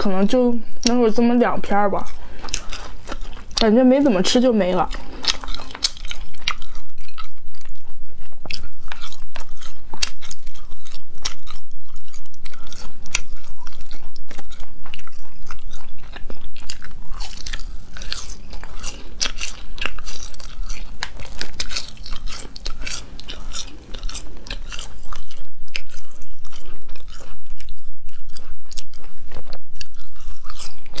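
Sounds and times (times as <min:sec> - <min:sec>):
biting and chewing snack: 0:00.0 - 0:31.0.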